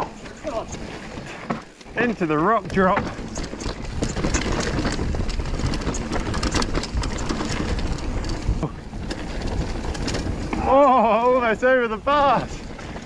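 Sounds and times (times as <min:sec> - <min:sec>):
bike rattling over rocks: 0:00.0 - 0:13.0
bike tyres rumbling: 0:00.0 - 0:13.0.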